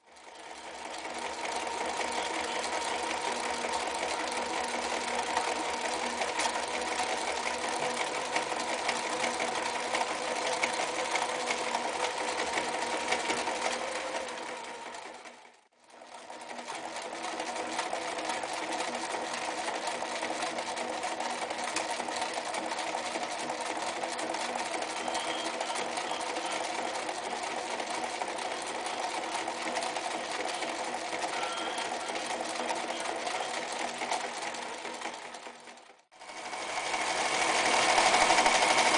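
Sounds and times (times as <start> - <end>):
sewing machine stitching leather: 0.0 - 38.9.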